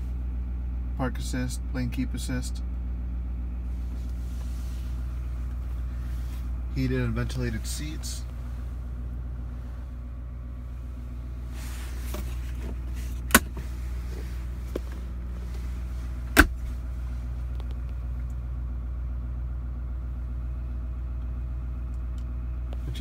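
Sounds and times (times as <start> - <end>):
pickup engine idling: 0.0 - 23.0.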